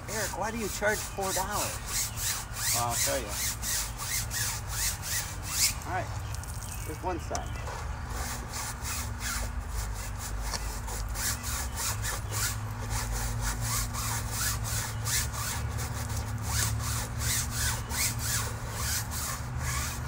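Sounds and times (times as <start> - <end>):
brush scrubbing window screen: 0.0 - 20.0.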